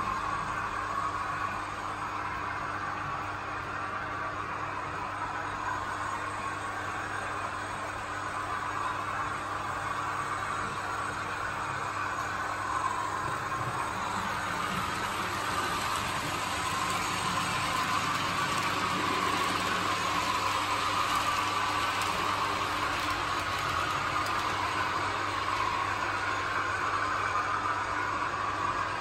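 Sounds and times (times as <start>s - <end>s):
constant low hum: 0.0s - 29.0s
model train motors whirring: 5.6s - 29.0s.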